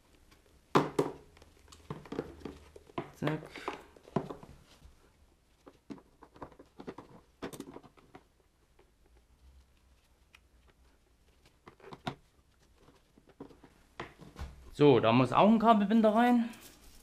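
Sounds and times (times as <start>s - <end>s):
cable handling clicks and rustles: 0.0s - 14.4s.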